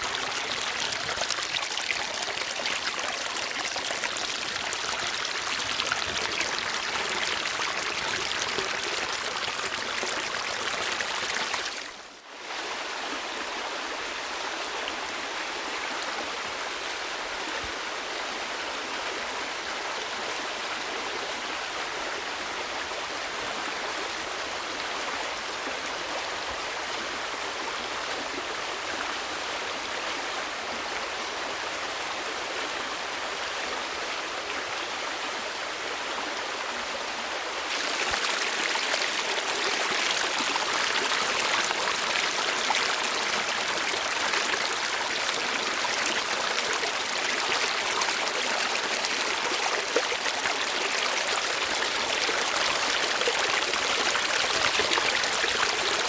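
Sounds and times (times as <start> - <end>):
stream rushing: 0.0 - 17.4, 24.0 - 56.0.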